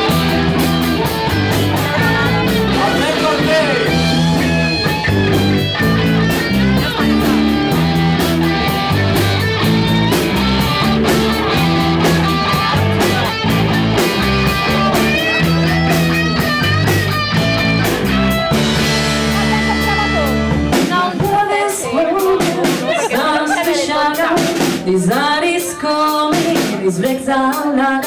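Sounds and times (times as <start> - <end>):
electric guitar lead: 0.0 - 25.6
bass guitar: 0.0 - 27.5
drums: 0.0 - 28.0.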